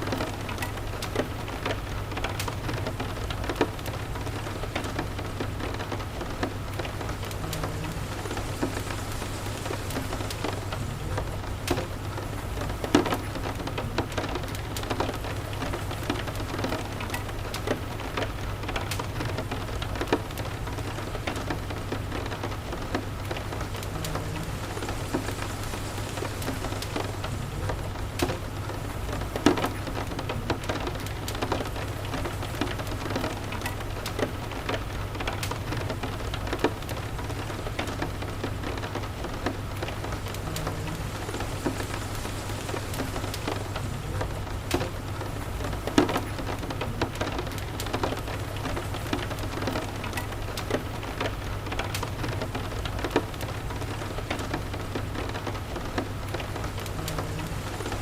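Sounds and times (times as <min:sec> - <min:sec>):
steady rain: 0:00.0 - 0:58.0
wood fire crackling and popping: 0:00.0 - 0:58.0.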